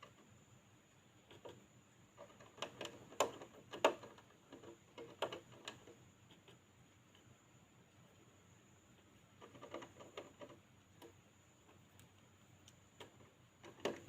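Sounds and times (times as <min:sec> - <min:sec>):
hamster clicking and scratching: 0:00.0 - 0:00.3, 0:01.2 - 0:07.4, 0:08.9 - 0:14.0.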